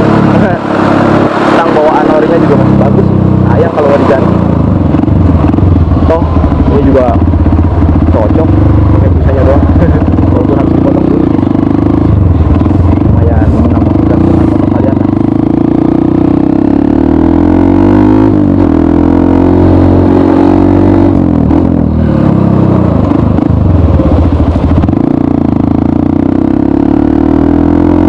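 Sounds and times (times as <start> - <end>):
motorcycle engine running loud: 0.0 - 28.0.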